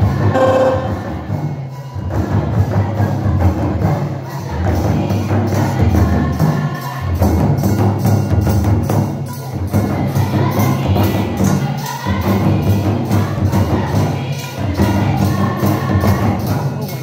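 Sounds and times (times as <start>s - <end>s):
hand drums beating rhythm: 0.0s - 17.0s.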